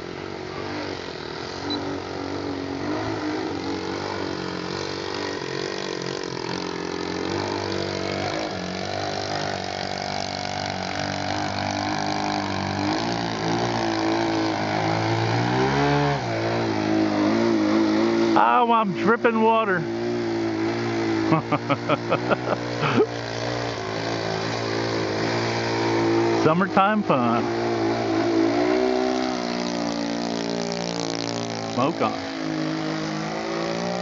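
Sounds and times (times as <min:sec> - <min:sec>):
model airplane engine: 0:00.0 - 0:34.0.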